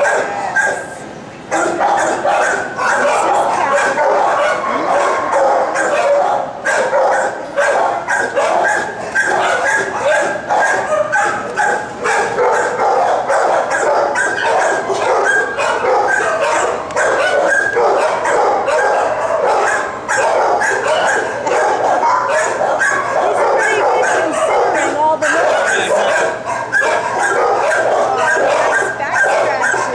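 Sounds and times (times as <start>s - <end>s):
many dogs barking and yipping: 0.0s - 29.9s.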